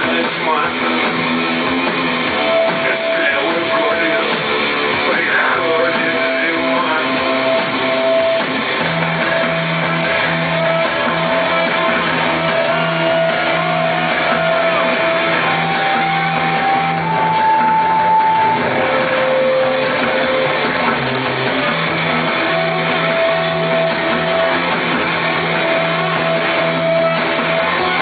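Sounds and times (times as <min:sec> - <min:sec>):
electric guitar: 0:00.0 - 0:28.0
live rock band playing: 0:00.0 - 0:28.0
pulsing bass line: 0:00.0 - 0:28.0.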